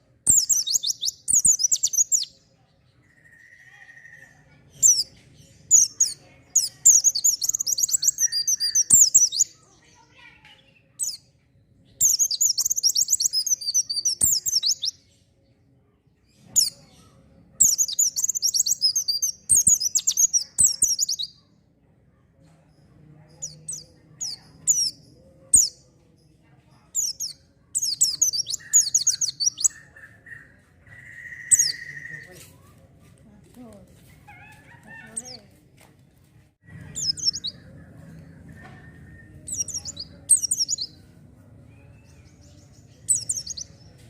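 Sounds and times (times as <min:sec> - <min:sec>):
bird chirps: 0:00.0 - 0:15.5, 0:16.2 - 0:21.7, 0:22.4 - 0:32.8, 0:36.6 - 0:44.0.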